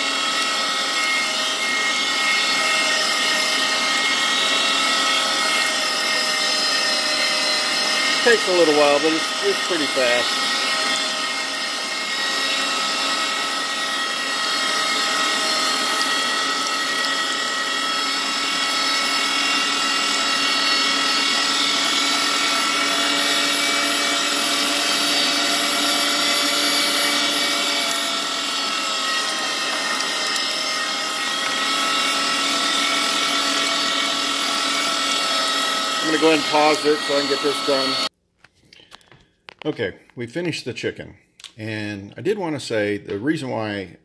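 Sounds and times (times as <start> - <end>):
meat grinder motor whining: 0.0 - 38.1.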